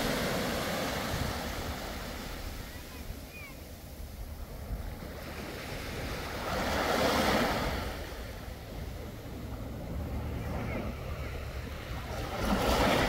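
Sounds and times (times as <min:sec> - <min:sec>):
wave breaking on shore: 0:00.0 - 0:13.0
wind rumble on microphone: 0:00.0 - 0:13.0.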